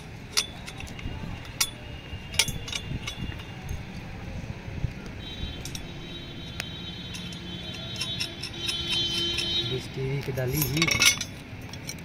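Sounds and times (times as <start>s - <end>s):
metal parts and bolt clinking: 0.0s - 4.1s, 5.2s - 12.0s.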